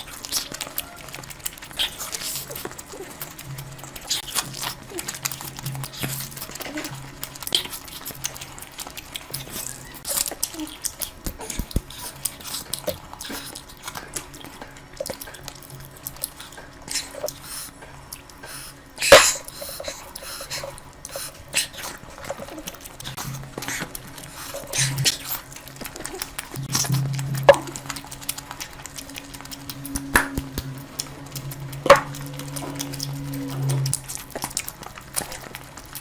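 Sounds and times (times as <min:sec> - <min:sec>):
mouth clicks and lip smacks: 0:00.0 - 0:36.0
wet chewing: 0:00.0 - 0:36.0.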